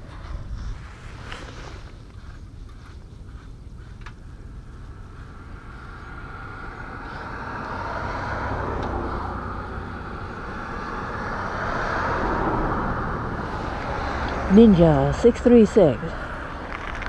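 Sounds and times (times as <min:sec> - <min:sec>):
road vehicle approaching: 0:00.0 - 0:17.0.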